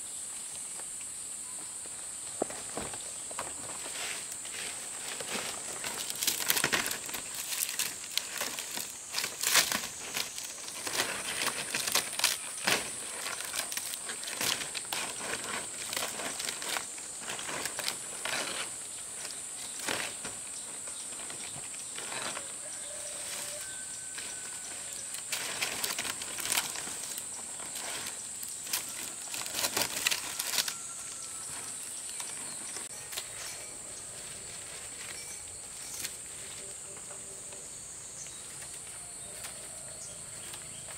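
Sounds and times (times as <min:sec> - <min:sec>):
high insect drone: 0:00.0 - 0:40.9
palm leaves rustling and crackling: 0:00.0 - 0:40.9.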